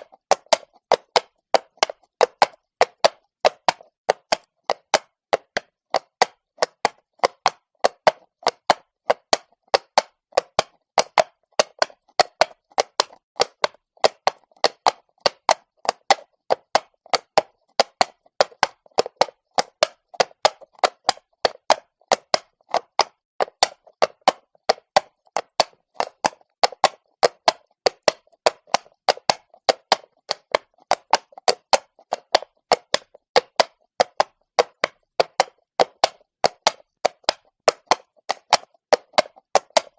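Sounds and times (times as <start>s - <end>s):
horse hooves on cobblestones: 0.0s - 39.9s.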